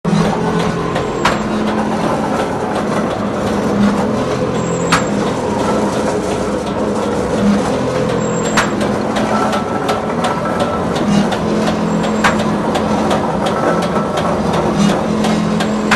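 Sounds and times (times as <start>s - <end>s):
machine humming: 0.1s - 15.9s.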